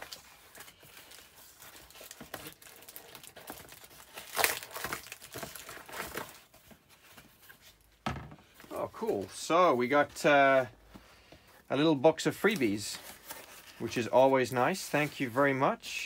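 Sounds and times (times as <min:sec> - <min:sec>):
packaging crinkling and rustling: 0:00.0 - 0:11.1, 0:11.7 - 0:16.0.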